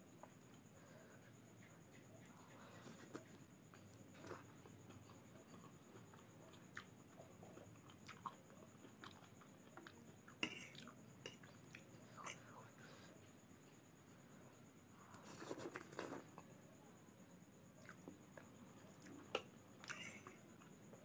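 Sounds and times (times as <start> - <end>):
soft chewing: 0.1 - 16.6, 17.7 - 21.0.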